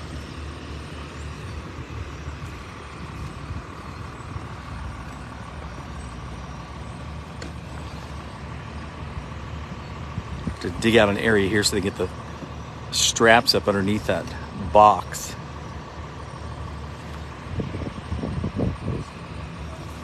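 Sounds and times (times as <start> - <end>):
heavy truck engine rumbling: 0.0 - 20.0.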